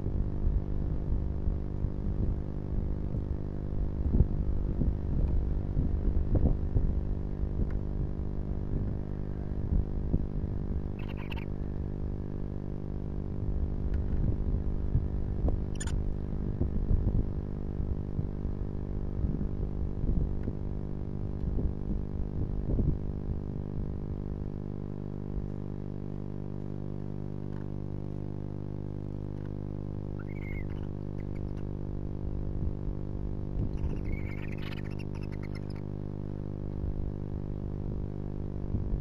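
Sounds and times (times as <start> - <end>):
steady electrical hum: 0.0 - 39.0.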